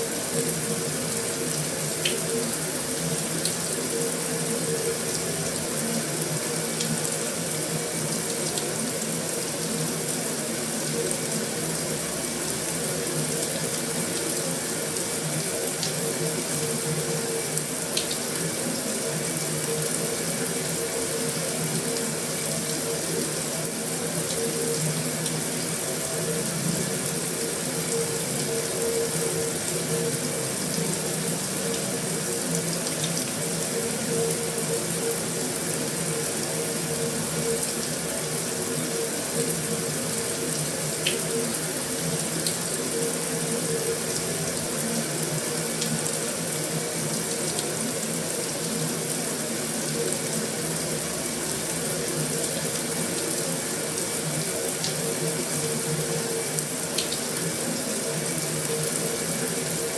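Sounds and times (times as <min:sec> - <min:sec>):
heavy rain on a metal roof: 0:00.0 - 0:59.9.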